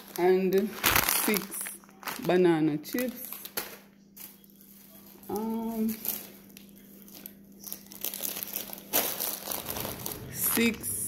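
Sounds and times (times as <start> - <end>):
snack packets crinkling: 0.0 - 10.6.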